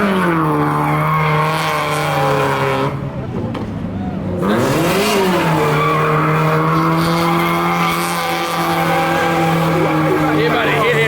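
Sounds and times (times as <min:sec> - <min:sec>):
car engine at high revs: 0:00.0 - 0:11.0
tyres spinning and skidding: 0:00.0 - 0:11.0.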